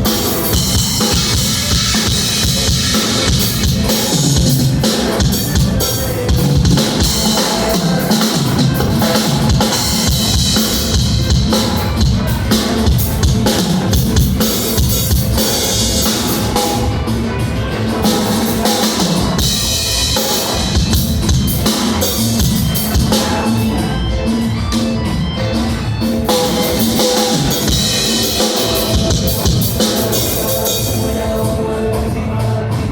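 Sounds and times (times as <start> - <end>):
drum kit playing: 0.0 - 32.9.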